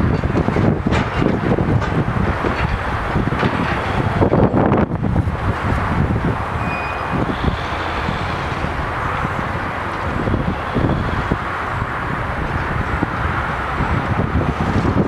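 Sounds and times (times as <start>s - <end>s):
distant engine rumble: 0.0s - 15.0s
wind buffeting microphone: 0.0s - 15.0s.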